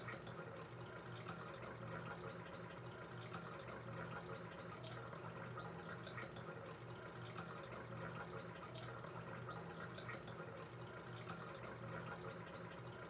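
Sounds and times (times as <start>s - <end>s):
low steady hum: 0.0s - 13.0s
small drip-like ticks: 0.0s - 13.0s
water trickling: 0.0s - 13.0s.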